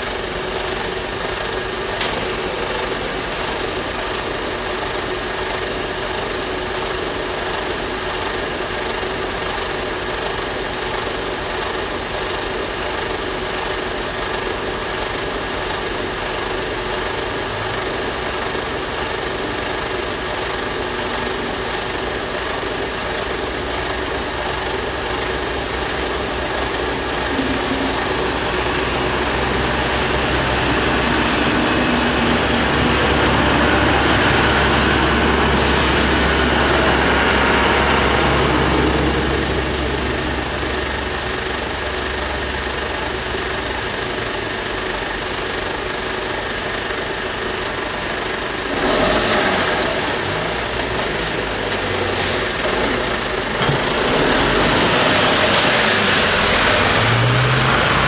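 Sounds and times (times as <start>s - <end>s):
cars pulling away: 0.0s - 45.4s, 46.2s - 58.0s
diesel train drone: 0.0s - 58.0s
train wheel noise: 0.0s - 58.0s.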